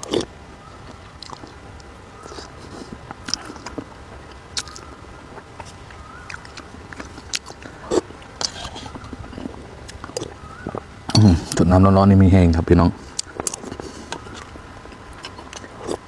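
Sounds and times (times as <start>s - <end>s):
person chewing: 0.0s - 11.6s, 12.5s - 16.0s.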